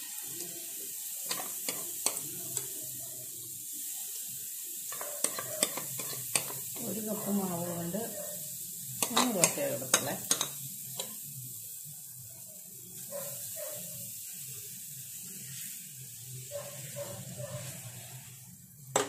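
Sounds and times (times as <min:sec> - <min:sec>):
batter hissing on hot pan: 0:00.0 - 0:19.0.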